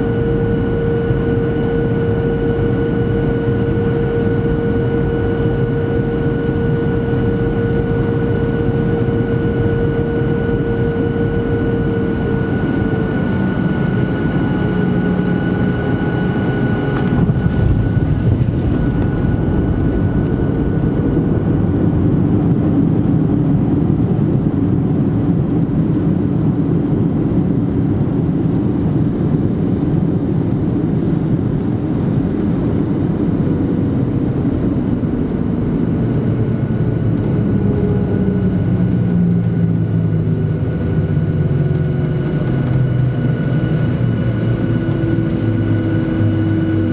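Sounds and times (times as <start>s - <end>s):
aircraft cabin roar: 0.0s - 46.9s
jet engine whine: 0.0s - 46.9s
rumble of landing rollout: 0.0s - 46.9s.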